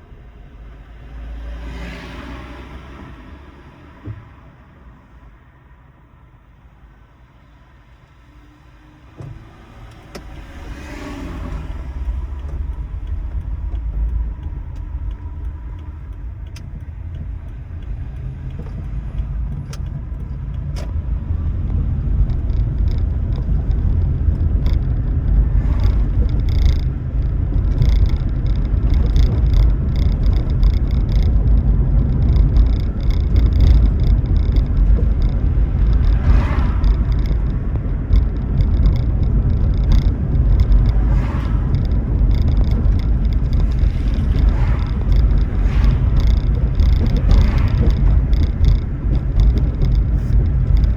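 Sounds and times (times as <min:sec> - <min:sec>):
car road and tyre rumble: 0:00.0 - 0:50.9.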